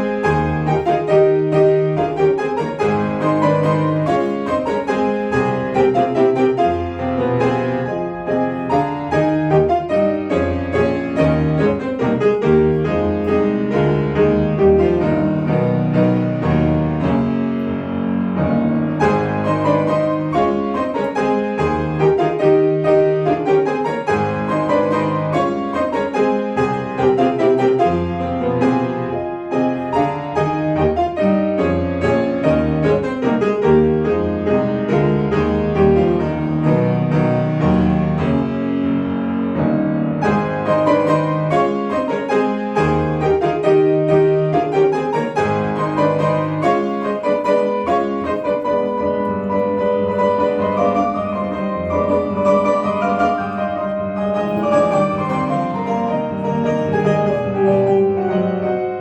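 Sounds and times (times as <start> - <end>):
solo classical piano: 0.0 - 59.0.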